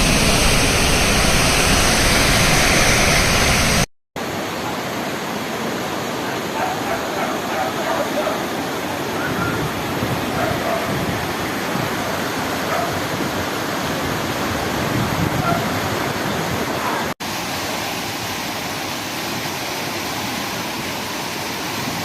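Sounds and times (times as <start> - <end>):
rushing floodwater roar: 0.0 - 22.0.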